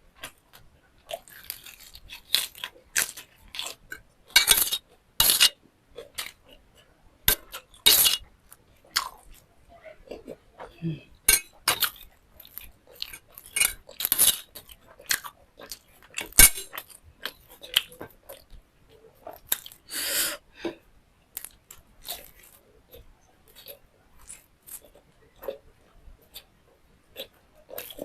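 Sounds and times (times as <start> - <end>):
chewing and crunching food: 0.0 - 19.9, 20.5 - 28.0.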